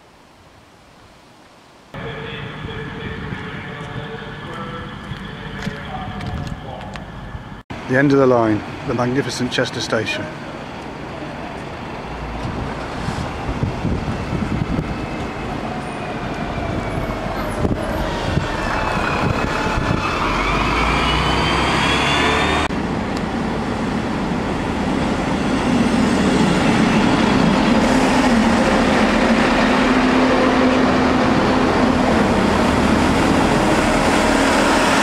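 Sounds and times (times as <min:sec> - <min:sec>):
train engines running: 0:02.0 - 0:21.1, 0:22.6 - 0:35.0
street traffic: 0:02.0 - 0:35.0.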